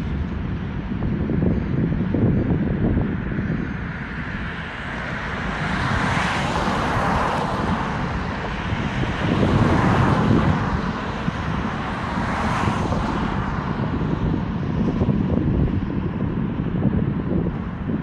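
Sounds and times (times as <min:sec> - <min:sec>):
traffic tyre and engine noise: 0:00.0 - 0:18.0.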